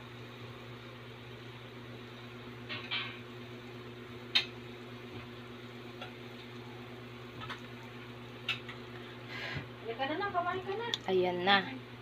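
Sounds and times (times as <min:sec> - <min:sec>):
broth boiling in a pot: 0:00.0 - 0:12.0.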